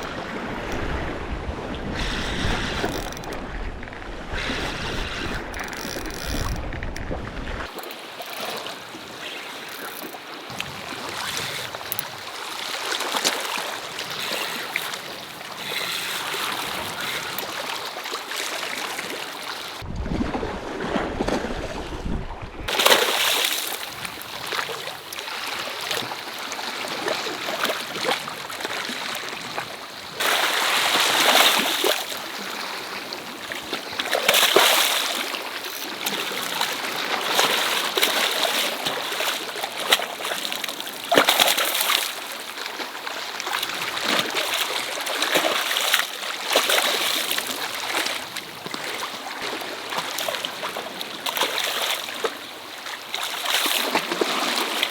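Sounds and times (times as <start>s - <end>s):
water splashing and sloshing: 0.0s - 54.9s.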